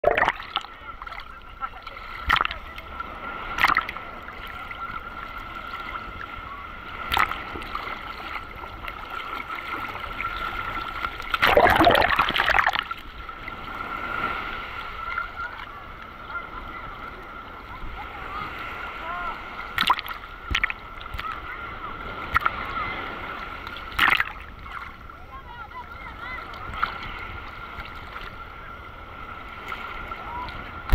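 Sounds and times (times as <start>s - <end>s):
muffled waves sloshing: 0.0s - 30.9s
water rushing over camera: 0.0s - 30.9s.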